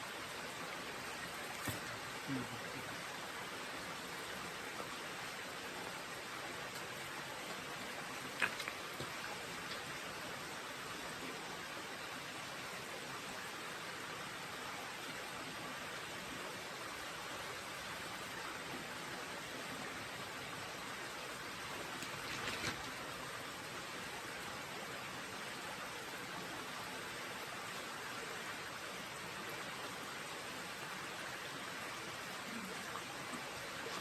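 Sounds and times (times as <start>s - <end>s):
creek water running over rocks: 0.0s - 34.0s.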